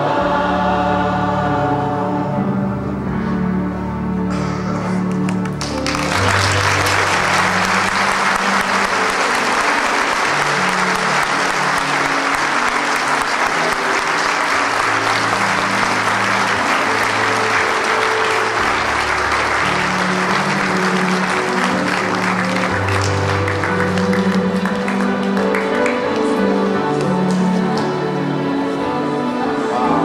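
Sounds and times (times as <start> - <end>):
keyboard music with bass notes: 0.0 - 30.0
congregation applauding: 4.4 - 28.4.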